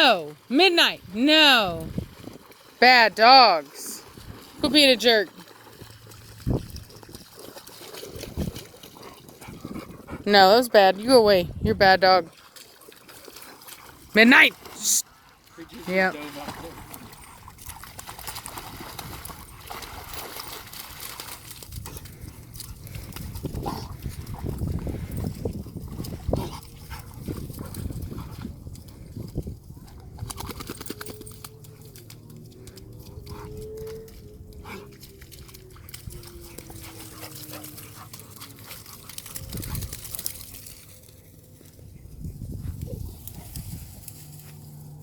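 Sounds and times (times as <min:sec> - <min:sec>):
dogs growling and scuffling: 0:05.4 - 0:10.3, 0:12.3 - 0:45.0.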